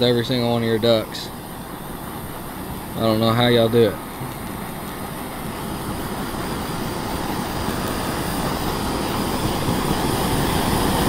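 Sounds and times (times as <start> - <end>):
blowtorch flame hissing: 0.0 - 11.0.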